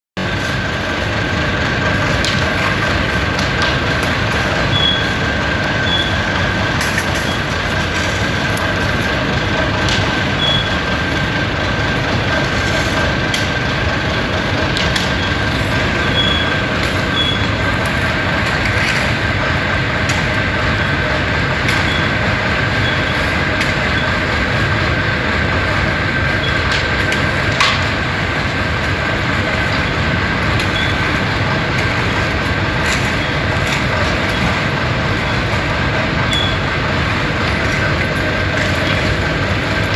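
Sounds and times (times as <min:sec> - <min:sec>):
concrete mixer drone: 0:00.2 - 0:39.9
high whine: 0:00.2 - 0:39.9.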